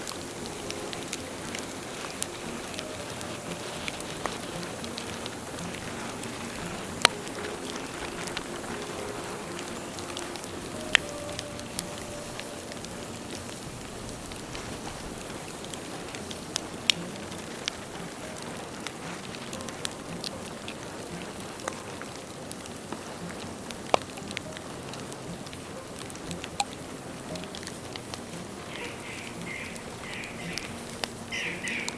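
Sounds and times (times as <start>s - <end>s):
bonfire crackling and popping: 0.0s - 31.9s.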